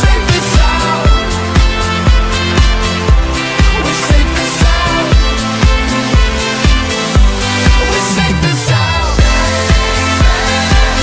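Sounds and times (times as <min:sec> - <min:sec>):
deep bass line: 0:00.0 - 0:11.0
music with kick-drum beat: 0:00.0 - 0:11.0.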